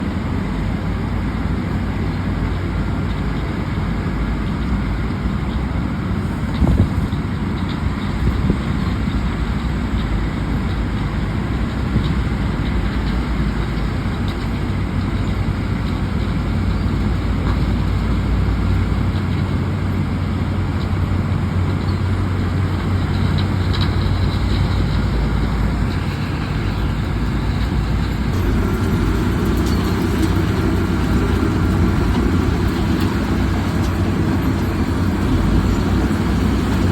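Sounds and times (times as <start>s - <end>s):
heavy machinery engine humming: 0.0s - 36.9s.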